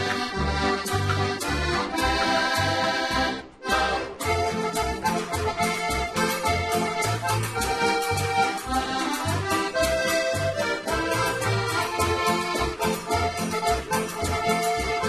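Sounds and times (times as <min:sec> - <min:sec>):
button accordions playing lively tune: 0:00.0 - 0:15.0.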